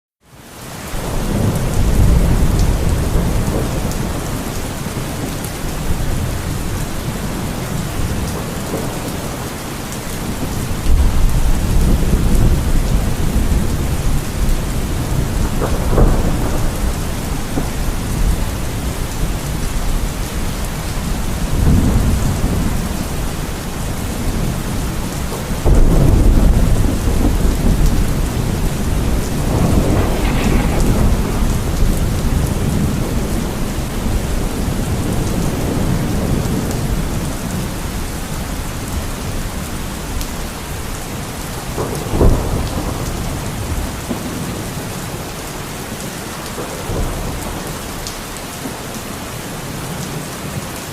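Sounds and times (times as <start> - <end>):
steady rain falling: 0.2 - 50.9
thunder rumbling: 1.0 - 45.2.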